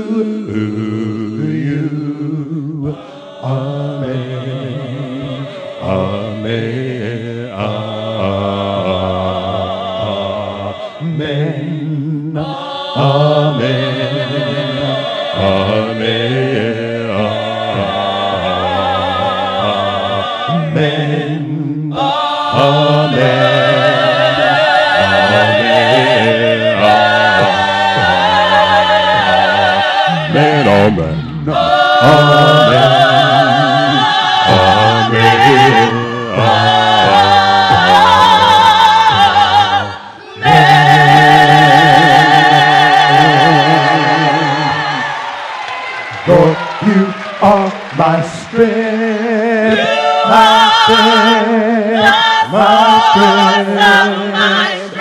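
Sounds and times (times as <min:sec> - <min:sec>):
a cappella vocal group singing: 0:00.0 - 0:55.0.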